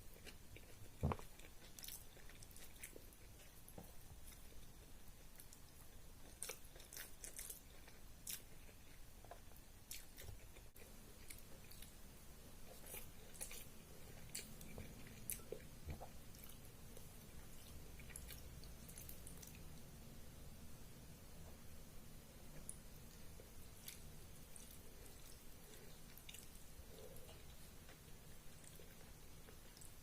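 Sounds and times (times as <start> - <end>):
chewing food: 0.0 - 19.9, 22.5 - 30.0.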